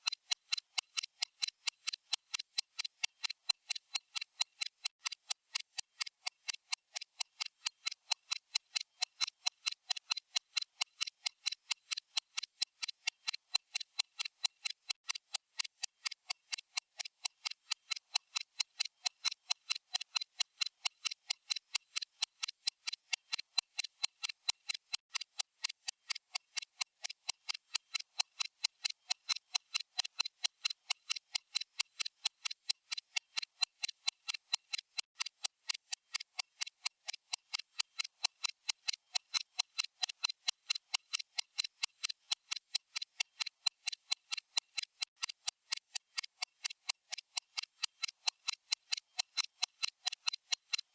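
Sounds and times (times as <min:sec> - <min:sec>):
stopwatch ticking: 0:00.0 - 0:50.9.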